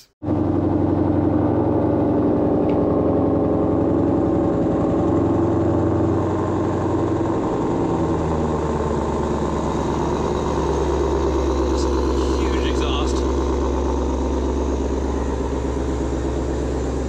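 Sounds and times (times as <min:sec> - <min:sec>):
car engine fast idle: 0:00.3 - 0:17.0.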